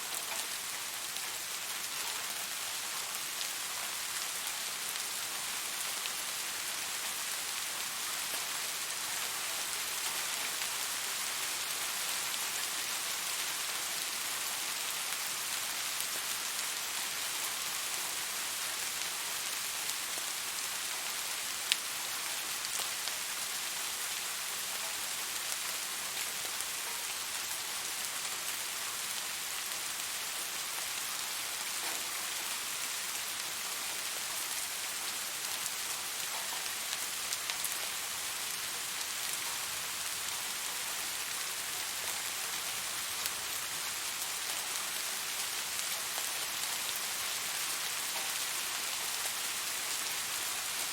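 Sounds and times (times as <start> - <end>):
rain falling on a surface: 0.0 - 50.9.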